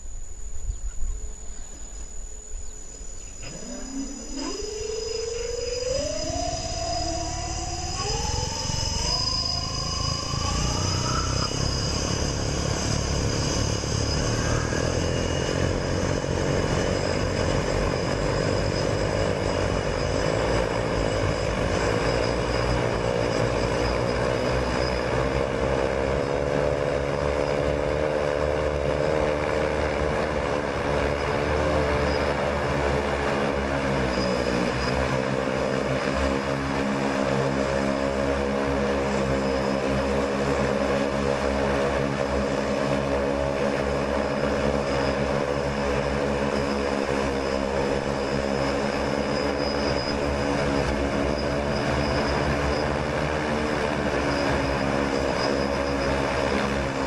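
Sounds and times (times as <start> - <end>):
multicopter rotors droning: 0.0 - 57.0.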